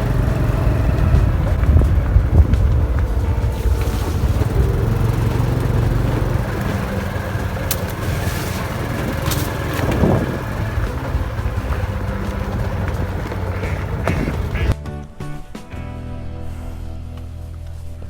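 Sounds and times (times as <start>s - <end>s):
small motorbike engine rumbling: 0.0s - 14.8s.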